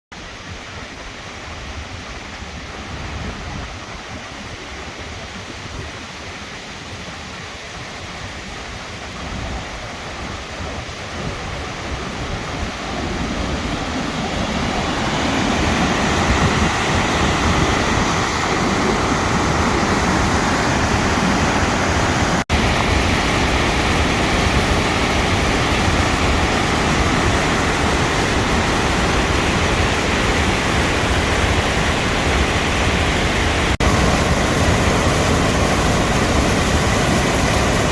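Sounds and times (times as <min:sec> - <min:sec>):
rushing floodwater: 0:00.2 - 0:37.9.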